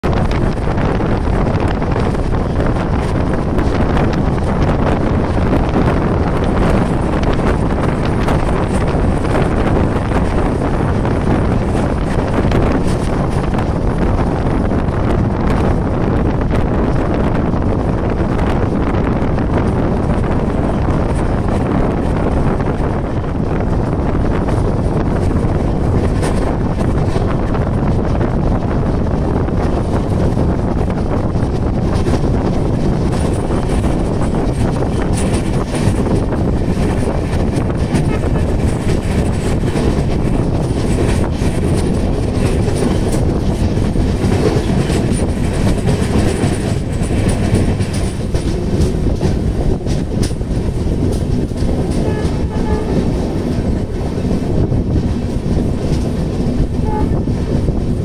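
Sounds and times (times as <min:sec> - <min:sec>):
train coaches rumbling on track: 0:00.0 - 0:58.0
wind rushing over microphone: 0:00.0 - 0:58.0.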